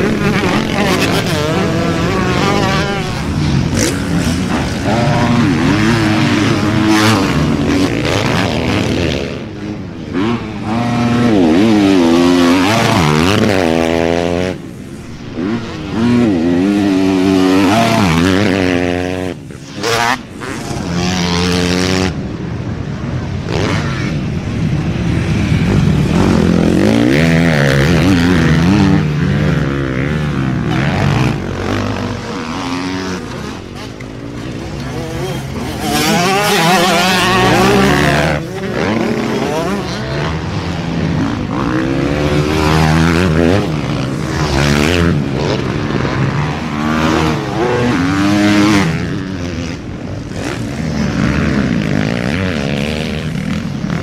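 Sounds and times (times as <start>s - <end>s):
motorbike engines revving: 0.0s - 54.0s.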